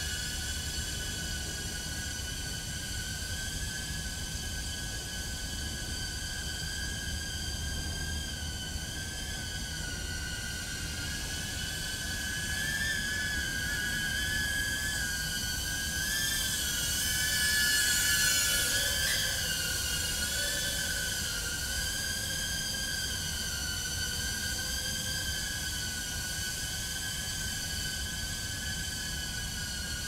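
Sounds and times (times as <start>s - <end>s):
quadcopter propellers whining: 0.0s - 30.0s.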